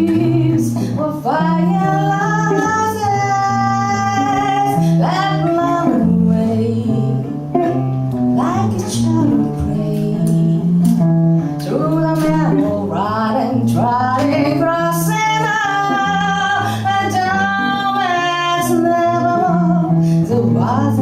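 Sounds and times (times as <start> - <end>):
person singing: 0.0 - 7.8, 8.4 - 21.0
acoustic guitar: 0.0 - 21.0.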